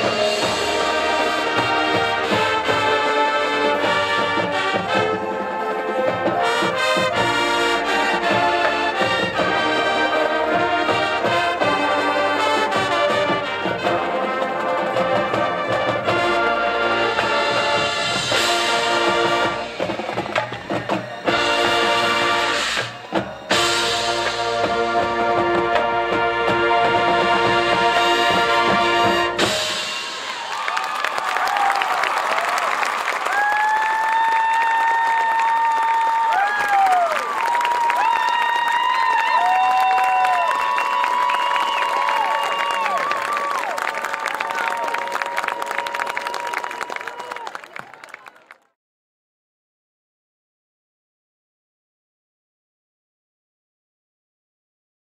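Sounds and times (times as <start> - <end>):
marching band brass and percussion: 0.0 - 48.4.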